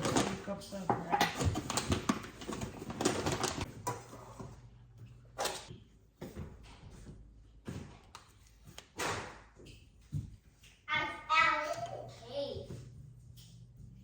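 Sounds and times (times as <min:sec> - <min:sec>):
kitchen things clattering: 0:00.0 - 0:14.0.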